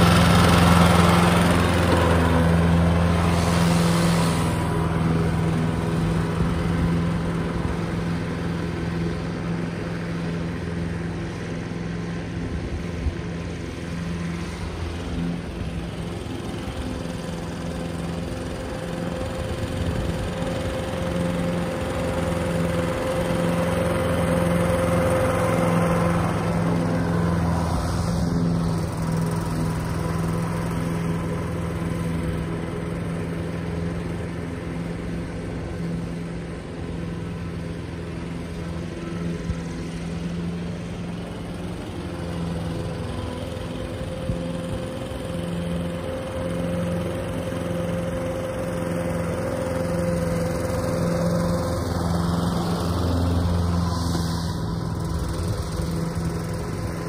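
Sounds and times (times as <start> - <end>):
lawn mower engine cutting grass: 0.0 - 57.0.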